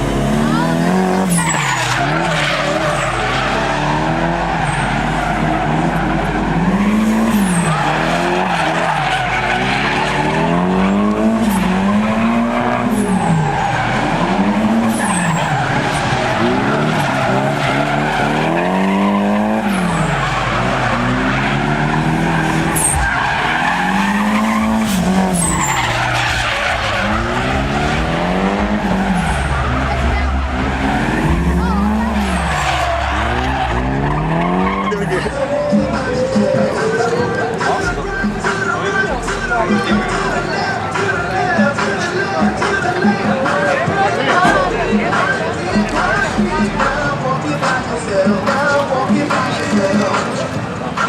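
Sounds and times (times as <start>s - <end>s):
car engine revving: 0.0s - 51.0s
tires skidding and squealing: 0.0s - 51.0s.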